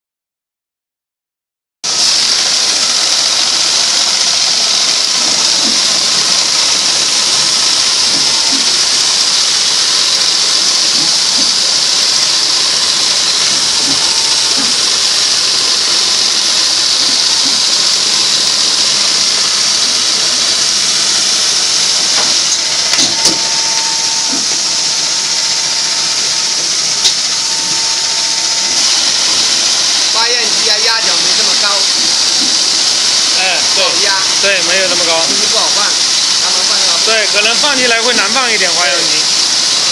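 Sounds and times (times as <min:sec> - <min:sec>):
hissing machinery: 0:01.8 - 0:39.9.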